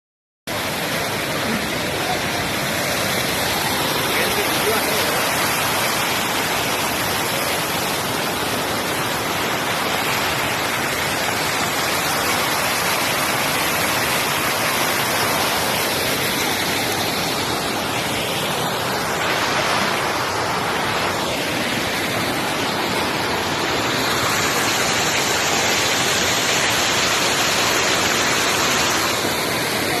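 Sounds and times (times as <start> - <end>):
loud steady rushing noise: 0.5 - 30.0.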